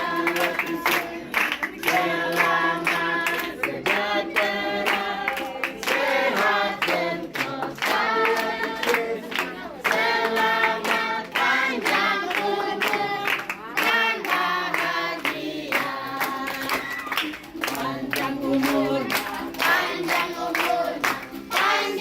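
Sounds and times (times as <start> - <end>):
group singing a celebration song: 0.0 - 22.0
hands clapping: 0.0 - 22.0.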